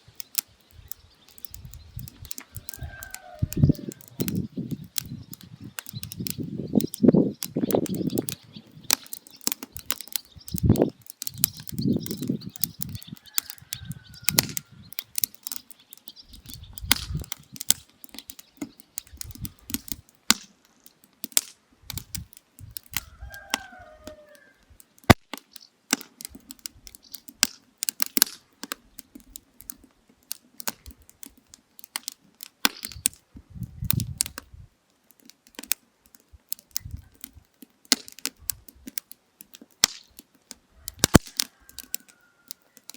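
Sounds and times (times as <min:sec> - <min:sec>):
firewood crackling and popping: 0:00.0 - 0:42.9.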